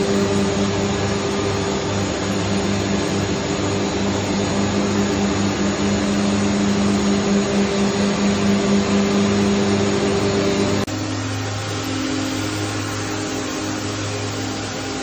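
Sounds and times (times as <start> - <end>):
spinning machines droning: 0.0 - 15.0.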